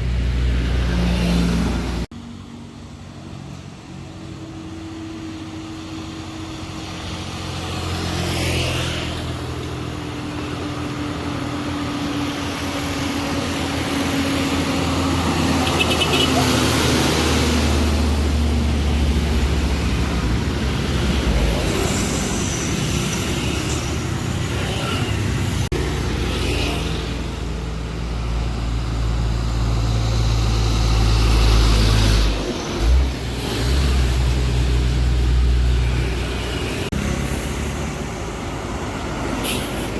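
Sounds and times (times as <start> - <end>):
diesel trucks labouring uphill: 0.0 - 39.9
road traffic passing: 0.0 - 39.9.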